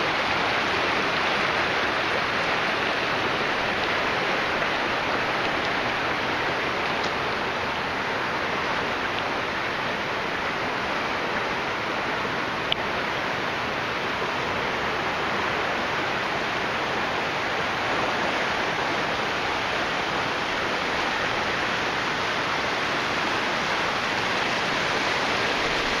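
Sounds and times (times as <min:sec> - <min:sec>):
rushing floodwater: 0:00.0 - 0:26.0.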